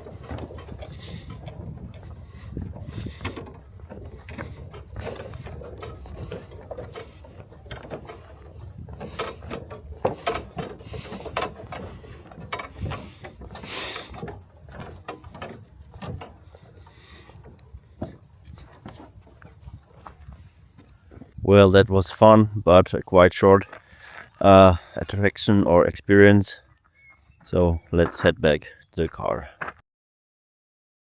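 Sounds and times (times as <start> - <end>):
footsteps on wooden bridge planks: 0.0 - 21.4, 22.2 - 25.7, 26.5 - 29.8.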